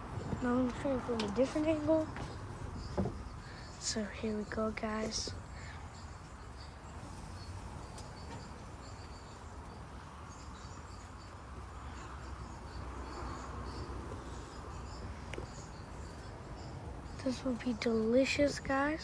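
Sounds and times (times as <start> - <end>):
high insect chirps: 0.0 - 19.0.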